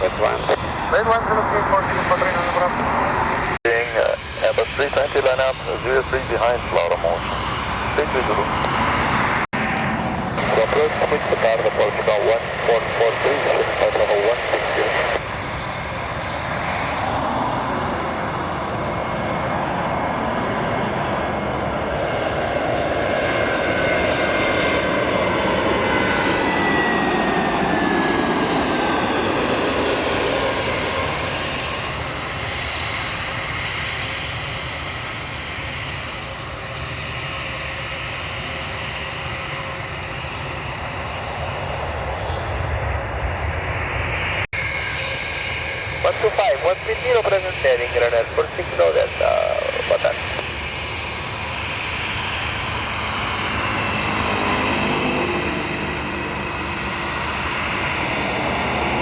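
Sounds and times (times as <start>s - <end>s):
high engine whine: 0.0s - 59.0s
jet airliner engines roaring: 0.0s - 59.0s.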